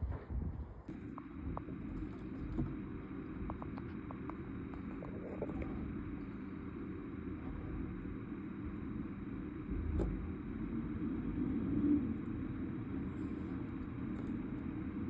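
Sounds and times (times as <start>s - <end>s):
garbage truck engine rumbling: 0.9s - 15.0s.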